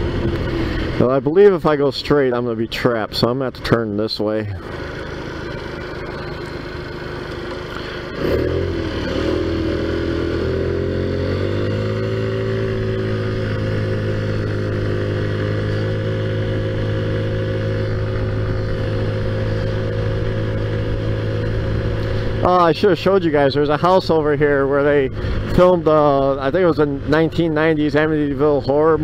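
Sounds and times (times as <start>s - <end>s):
moped engine running: 0.0s - 29.0s.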